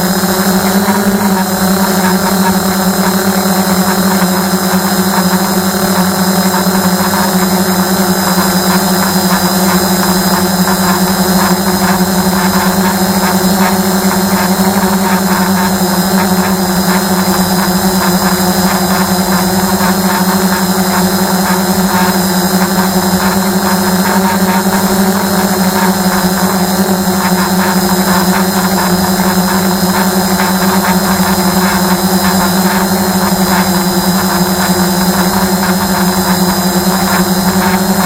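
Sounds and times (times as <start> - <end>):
drone propellers humming: 0.0 - 38.0.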